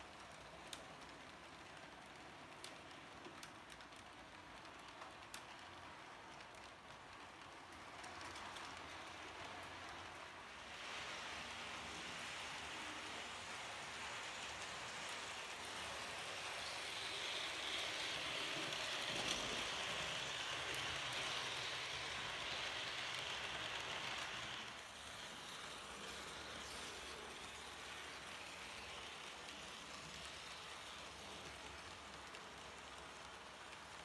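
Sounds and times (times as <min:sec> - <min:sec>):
model train wheels hissing on rails: 0:00.0 - 0:34.0.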